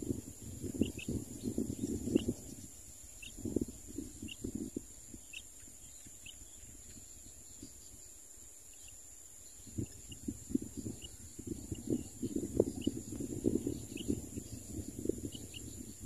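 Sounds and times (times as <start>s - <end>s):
steady high-pitched hiss: 0.0s - 16.0s.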